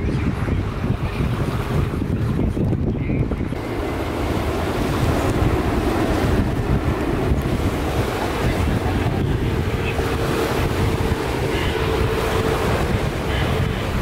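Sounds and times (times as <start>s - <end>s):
jet airliner rumble overhead: 0.0s - 14.0s
wind buffeting microphone: 0.0s - 14.0s.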